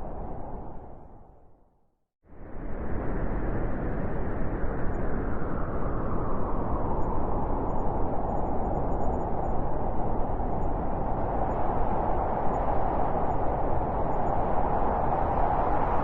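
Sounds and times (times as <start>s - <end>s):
strong wind through forest: 2.2s - 16.0s.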